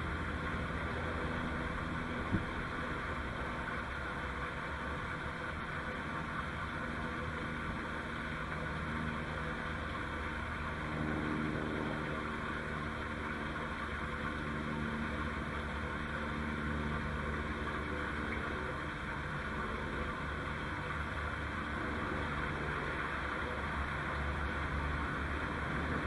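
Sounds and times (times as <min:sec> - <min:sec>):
distant engine drone: 0:00.0 - 0:26.0.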